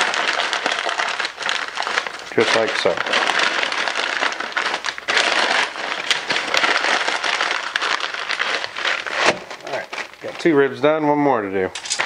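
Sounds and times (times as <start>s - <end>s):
paper crinkling and rustling: 0.0s - 10.8s.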